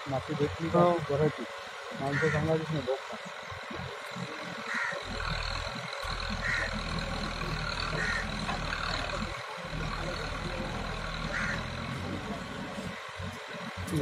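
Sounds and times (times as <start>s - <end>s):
diesel engines running: 0.0s - 14.0s.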